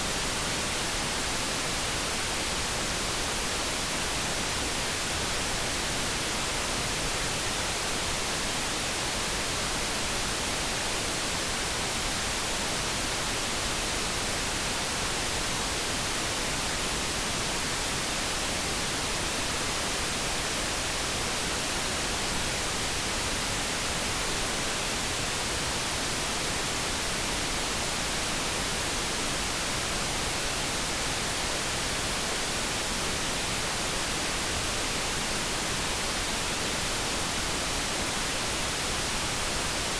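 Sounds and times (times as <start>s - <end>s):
steady hiss noise: 0.0s - 39.9s.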